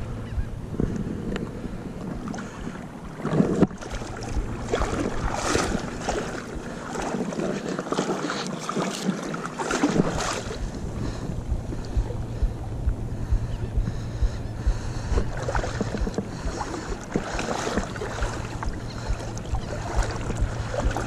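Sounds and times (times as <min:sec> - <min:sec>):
water sloshing around wading person: 0:00.8 - 0:21.0.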